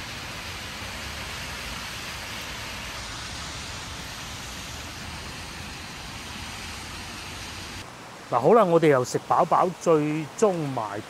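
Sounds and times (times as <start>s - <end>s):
rain on wet street: 0.0s - 11.0s
road traffic: 0.0s - 11.0s.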